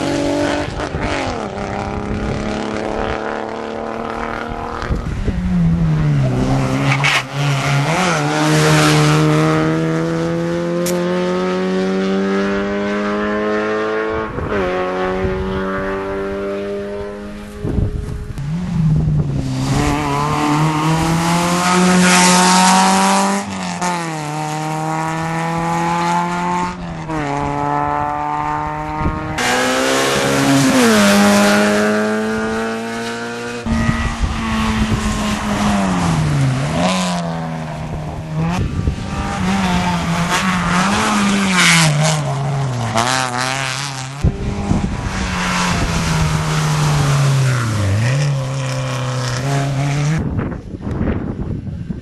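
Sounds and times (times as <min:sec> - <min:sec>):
rally car engines revving past: 0:00.0 - 0:51.2.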